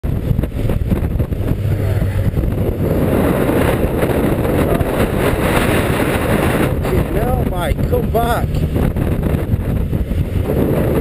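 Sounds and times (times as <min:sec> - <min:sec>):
motorcycle engine running: 0:00.0 - 0:11.0
strong wind buffeting microphone: 0:00.0 - 0:11.0.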